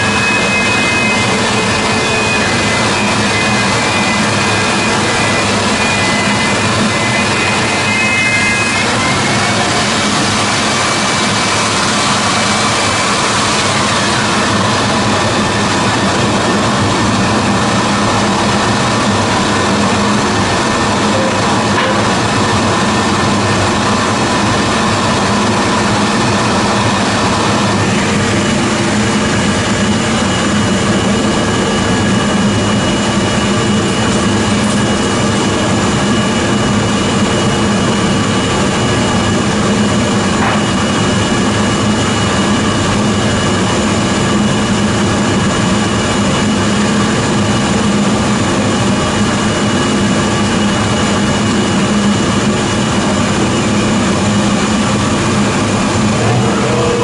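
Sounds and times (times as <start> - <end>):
thickness planer planing board: 0.0 - 57.0.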